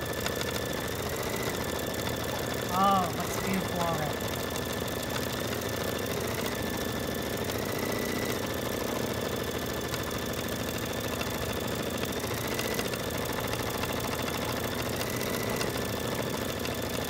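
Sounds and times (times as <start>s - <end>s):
embroidery machine needle clatter: 0.0s - 2.7s, 3.3s - 17.0s.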